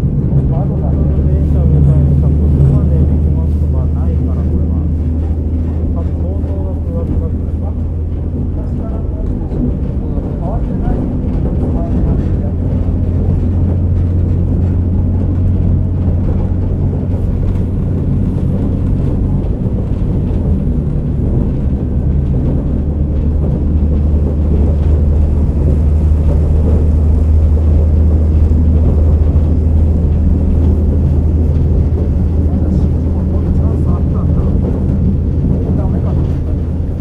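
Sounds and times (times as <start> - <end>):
diesel engine drone: 0.0 - 37.0
train rail running noise: 0.0 - 37.0.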